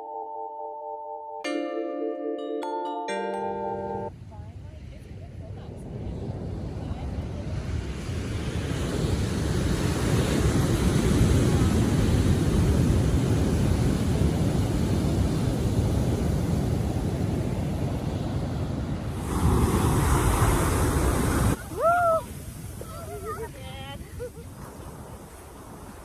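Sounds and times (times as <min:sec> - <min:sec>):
ocean surf washing: 0:03.5 - 0:26.0
wind buffeting microphone: 0:04.4 - 0:26.0.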